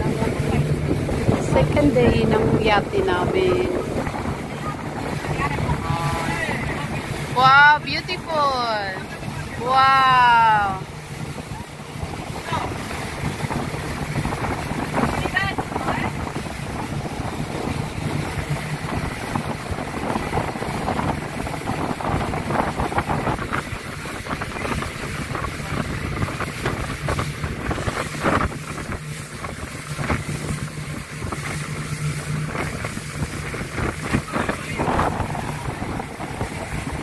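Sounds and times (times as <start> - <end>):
boat engine hum: 0.0 - 37.0
water rushing and splashing: 0.0 - 37.0
wind buffeting microphone: 0.0 - 37.0.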